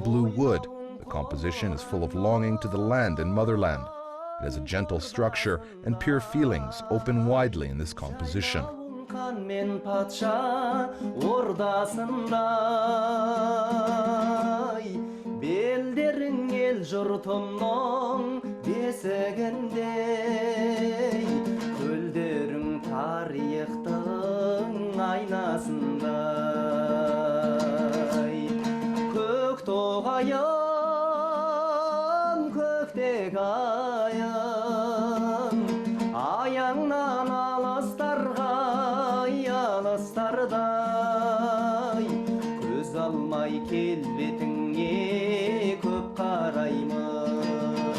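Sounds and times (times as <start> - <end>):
person singing with vibrato: 0.0 - 47.9
plucked-string accompaniment: 0.0 - 47.9.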